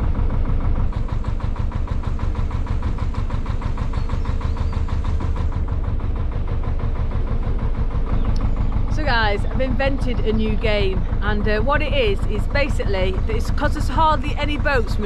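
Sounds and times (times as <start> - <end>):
diesel boat engine chugging: 0.0 - 15.0.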